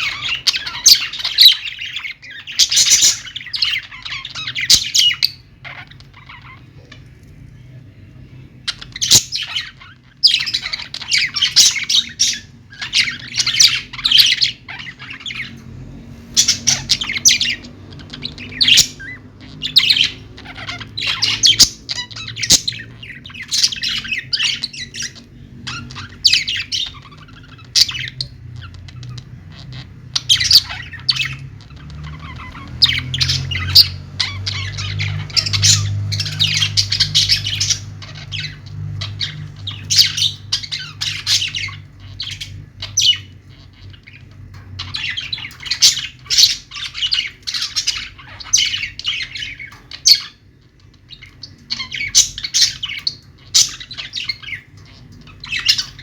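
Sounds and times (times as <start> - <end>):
parrots chirping and squawking: 0.0 - 56.0.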